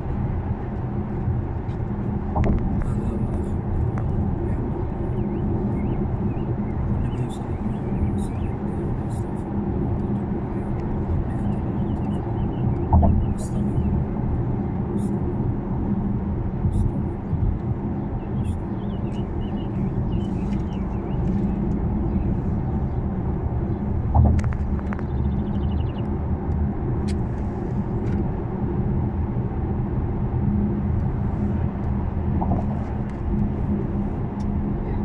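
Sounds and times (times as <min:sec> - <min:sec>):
car road and engine rumble: 0:00.0 - 0:35.0
faint hum: 0:00.0 - 0:35.0.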